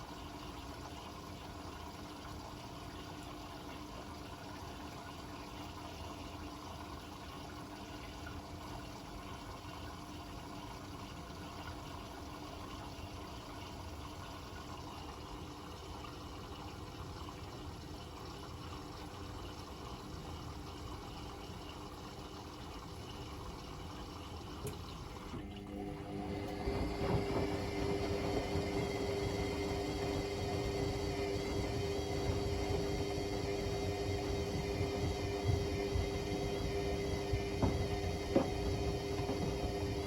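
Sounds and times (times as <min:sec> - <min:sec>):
water rushing in washing machine: 0:00.0 - 0:40.0.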